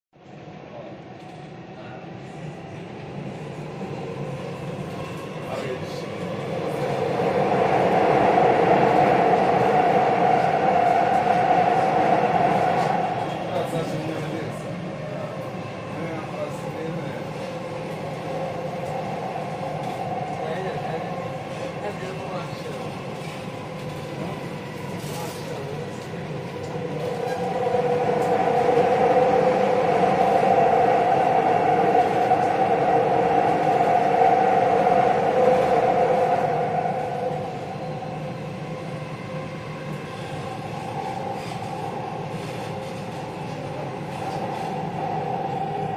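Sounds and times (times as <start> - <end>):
metro train running on track: 0.2 - 45.9.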